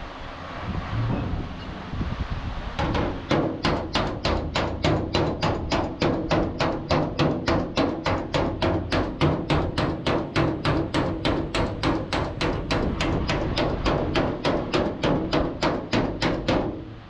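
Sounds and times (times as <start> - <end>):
tool tapping sheet metal: 2.8 - 16.9.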